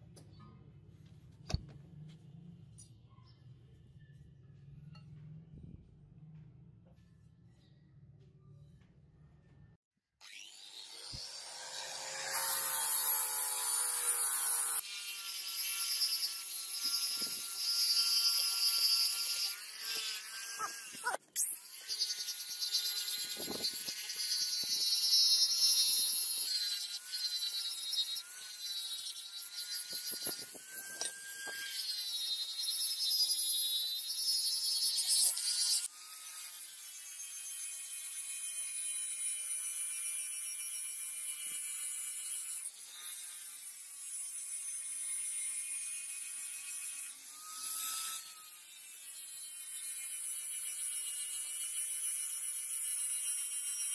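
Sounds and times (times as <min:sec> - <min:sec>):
angle grinder cutting steel: 0:10.2 - 0:53.9.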